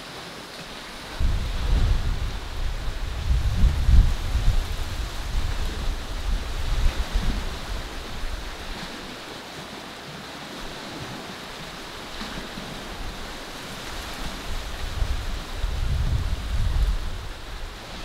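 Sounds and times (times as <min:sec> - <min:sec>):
small waves washing: 0:00.0 - 0:18.0
wind: 0:00.0 - 0:18.0
wind buffeting microphone: 0:00.7 - 0:09.2, 0:10.7 - 0:18.0.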